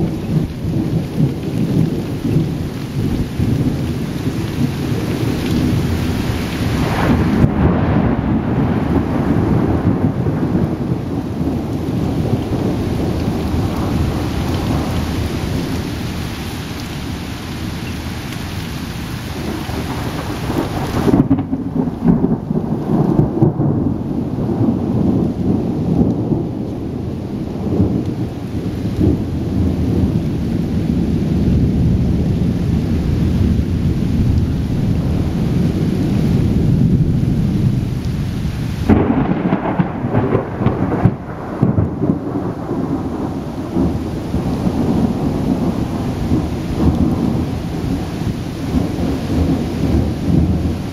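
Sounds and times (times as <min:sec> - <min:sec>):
sharp thunder cracks: 0:00.0 - 0:16.0, 0:19.4 - 0:32.3, 0:38.8 - 0:50.9
rain hissing: 0:00.0 - 0:50.9
thunder rumbling: 0:00.0 - 0:50.9.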